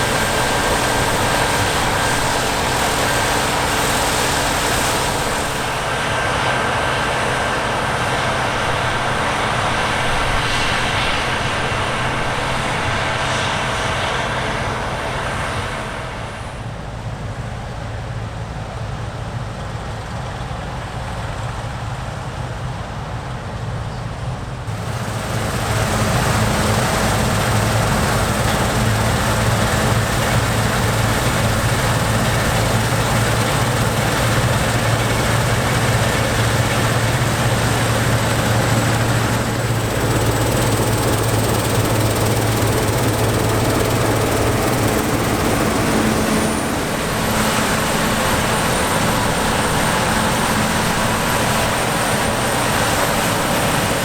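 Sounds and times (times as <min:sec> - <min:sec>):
harvest machinery diesel drone: 0:00.0 - 0:54.0.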